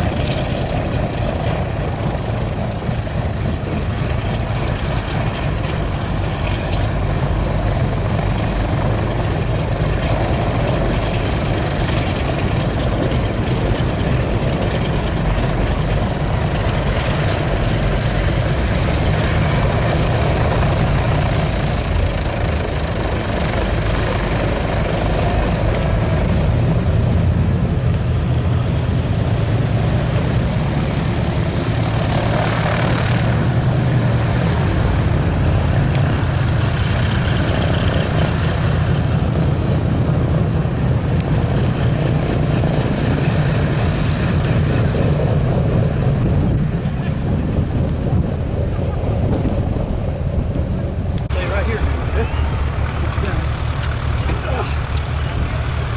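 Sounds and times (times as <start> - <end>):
propeller aircraft engine running: 0.0 - 55.9.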